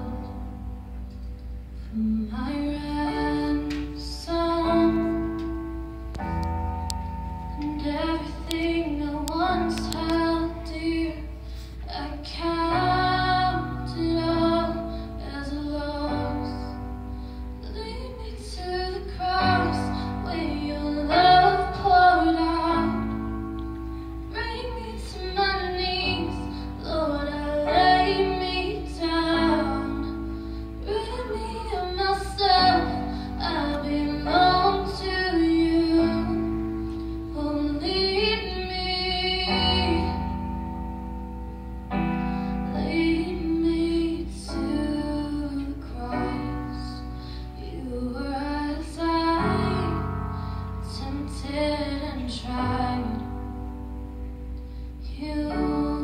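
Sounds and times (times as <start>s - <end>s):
woman singing worship song: 0.0s - 0.7s, 1.9s - 5.6s, 7.5s - 40.6s, 42.4s - 53.8s, 54.8s - 56.0s
piano chords: 0.0s - 56.0s.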